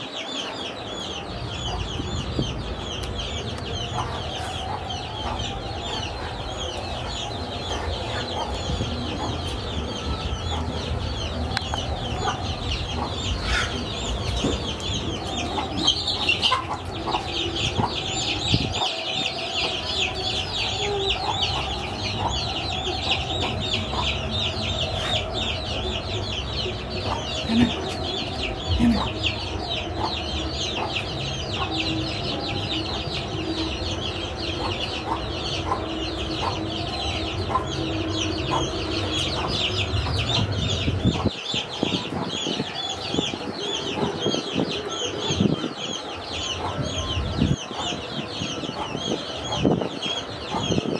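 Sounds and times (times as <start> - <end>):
chickens cheeping and clucking: 0.0 - 50.9.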